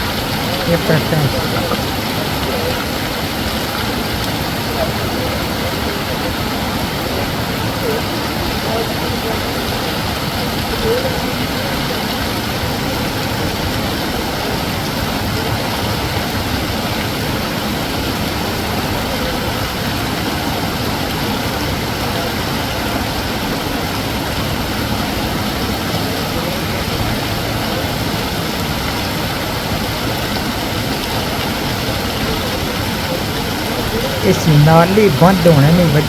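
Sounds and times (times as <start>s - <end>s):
storm water rushing: 0.0s - 35.7s
heavy rain: 0.0s - 36.0s.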